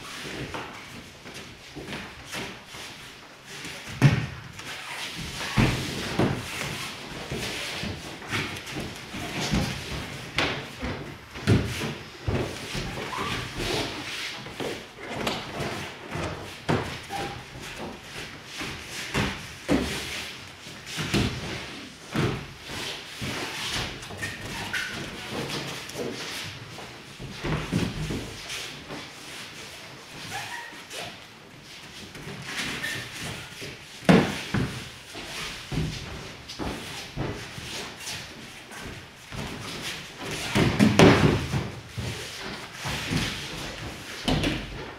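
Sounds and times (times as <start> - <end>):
bare feet shuffling on mats: 0.0 - 44.9.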